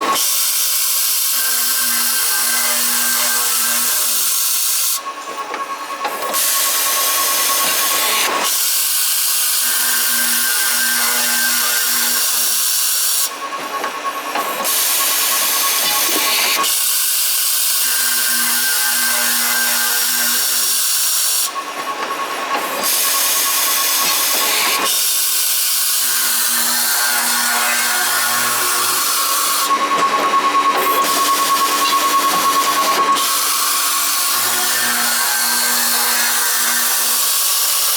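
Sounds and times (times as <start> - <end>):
pipe cutting machine grinding: 0.0 - 37.9.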